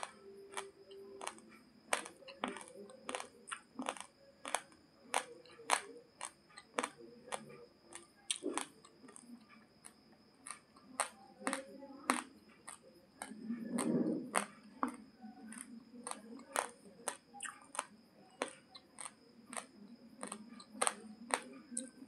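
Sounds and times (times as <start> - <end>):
dry rice crunched between teeth: 0.0 - 9.3, 10.4 - 21.9.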